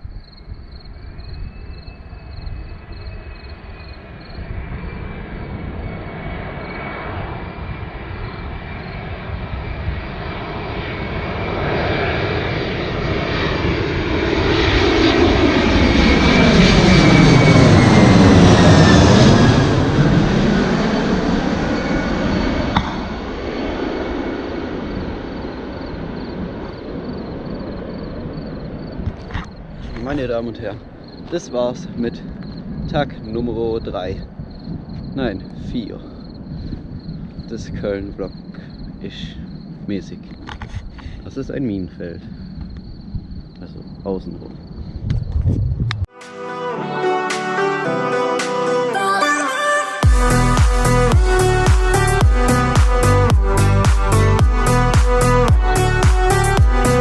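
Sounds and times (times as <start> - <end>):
jet airliner passing overhead: 0.0 - 57.0
high engine whine: 0.5 - 46.2, 47.0 - 57.0.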